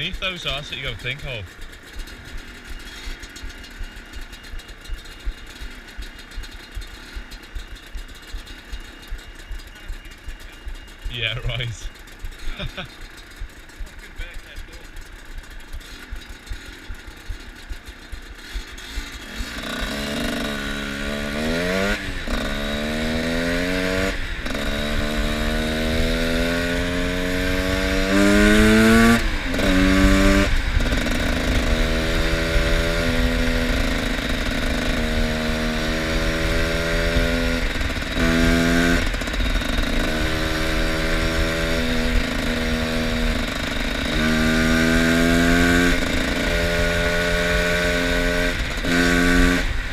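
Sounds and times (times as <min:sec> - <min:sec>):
two-stroke motorcycle revving: 0:00.0 - 0:49.9.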